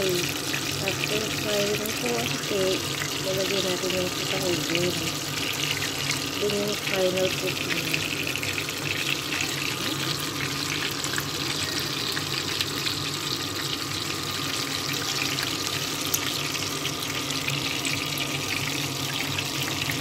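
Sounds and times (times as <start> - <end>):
oil sizzling with crackles and pops: 0.0 - 20.0.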